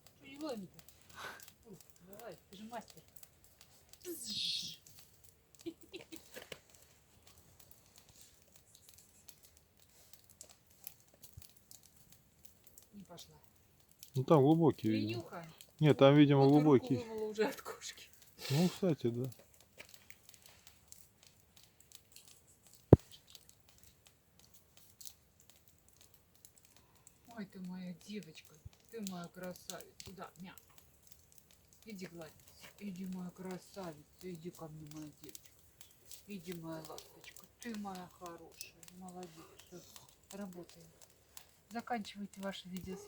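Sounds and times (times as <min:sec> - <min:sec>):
faint clicks: 0:00.0 - 0:15.8, 0:19.0 - 0:43.0
light ticks: 0:00.0 - 0:43.0.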